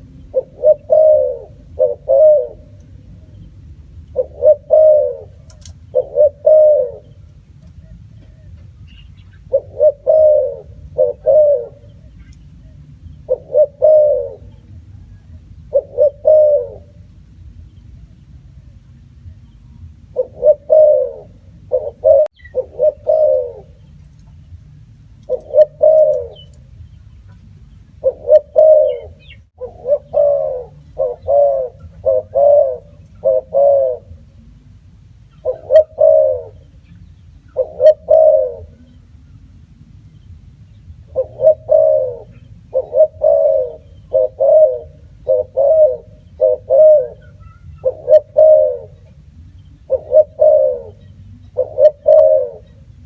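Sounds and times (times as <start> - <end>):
dove cooing: 0.0 - 17.3, 19.8 - 24.5, 25.2 - 39.5, 40.9 - 53.0.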